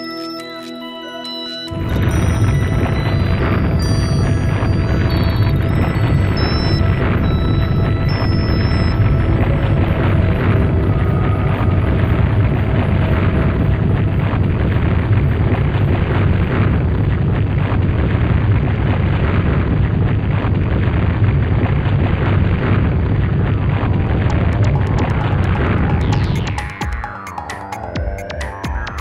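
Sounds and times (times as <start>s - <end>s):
deep rumbling noise: 1.7s - 27.2s.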